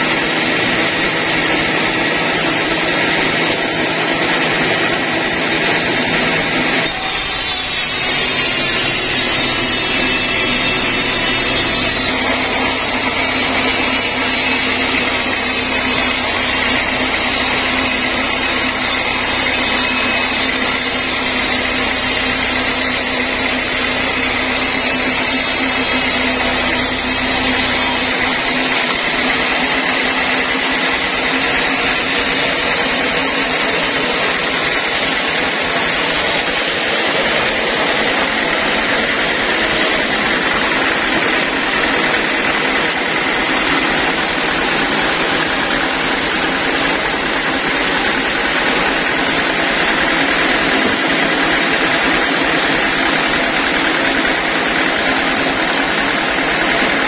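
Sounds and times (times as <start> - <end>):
band sawmill whine: 0.0 - 55.4.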